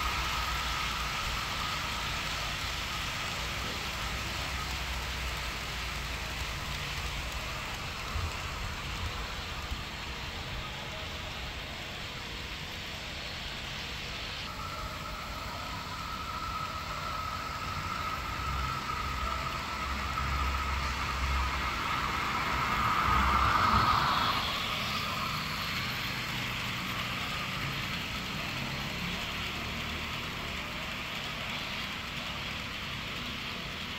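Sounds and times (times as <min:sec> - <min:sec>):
model locomotive motor whine: 0:00.0 - 0:33.9
model train wheels on track: 0:00.0 - 0:33.9.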